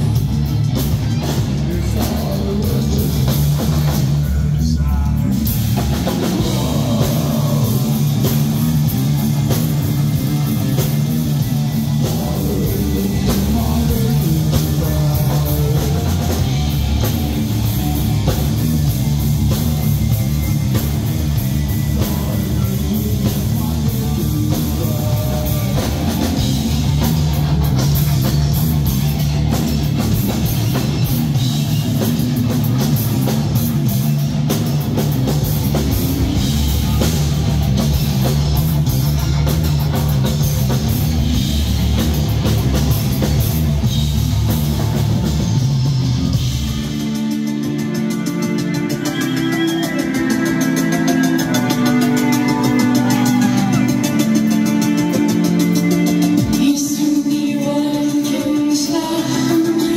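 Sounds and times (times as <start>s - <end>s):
bass guitar: 0.0s - 59.9s
distorted electric guitars: 0.0s - 59.9s
drum kit: 0.0s - 59.9s.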